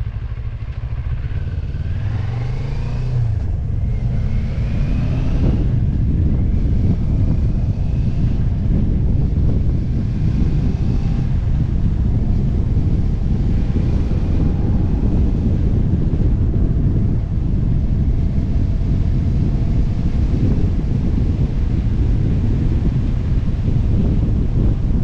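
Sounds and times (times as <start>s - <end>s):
faint motorcycle engine: 0.0s - 25.0s
wind rushing over microphone: 0.0s - 25.0s.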